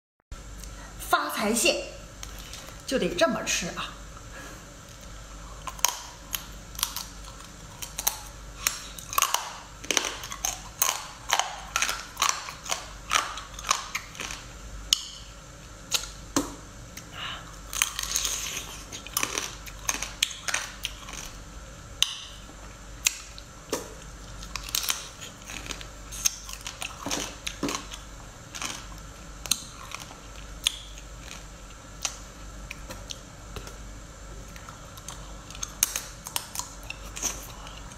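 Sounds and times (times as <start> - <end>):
biting and chewing seafood: 4.8 - 33.8, 34.4 - 37.9.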